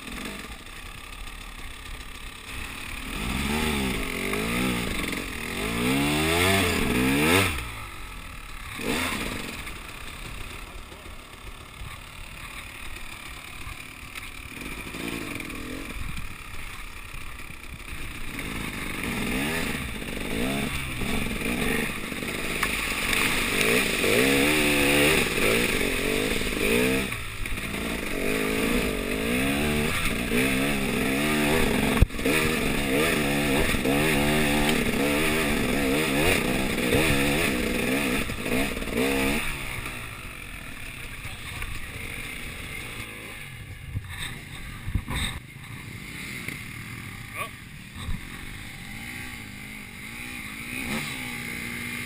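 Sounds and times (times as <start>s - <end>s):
two-stroke motorbike engine revving: 0.0s - 52.0s.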